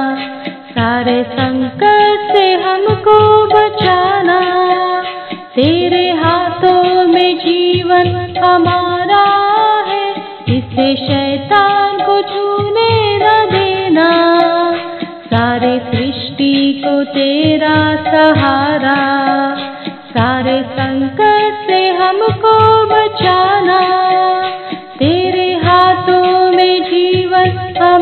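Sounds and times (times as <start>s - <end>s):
woman singing devotional song: 0.0s - 28.0s.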